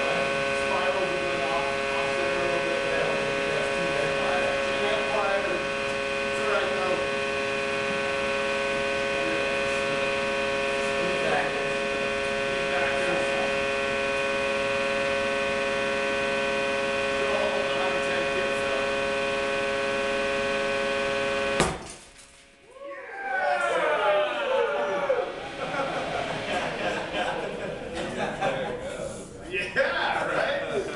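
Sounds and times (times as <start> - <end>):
hydraulic power unit humming: 0.0 - 30.9.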